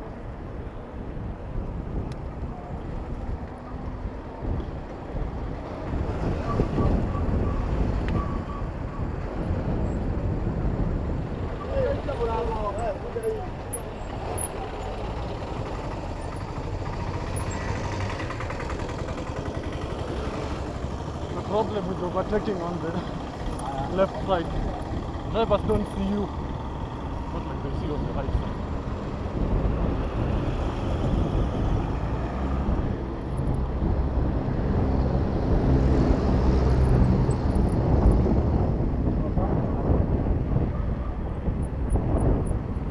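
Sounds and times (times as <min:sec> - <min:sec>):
road traffic rumble: 0:00.0 - 0:42.9
vehicle engines running: 0:00.0 - 0:42.9
wind rumble on microphone: 0:00.0 - 0:42.9.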